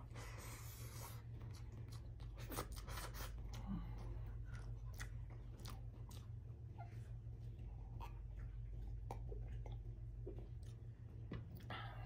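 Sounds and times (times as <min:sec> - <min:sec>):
close chewing: 0:00.0 - 0:12.0.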